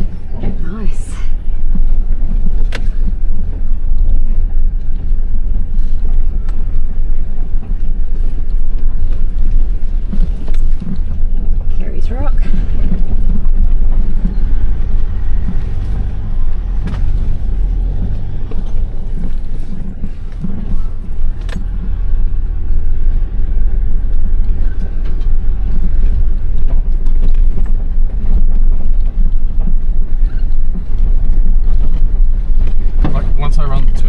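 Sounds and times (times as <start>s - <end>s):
vehicle rumbling over gravel: 0.0s - 34.0s.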